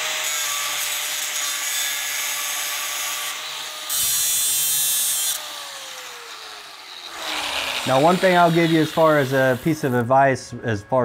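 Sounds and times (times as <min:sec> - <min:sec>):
angle grinder cutting steel: 0:00.0 - 0:10.1.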